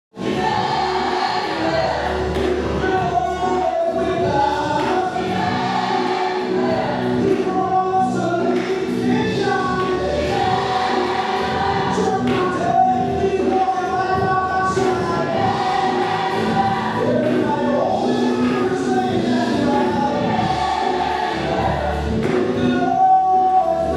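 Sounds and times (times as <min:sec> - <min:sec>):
musical backing: 0:00.1 - 0:23.9
gospel choir singing: 0:00.2 - 0:23.9.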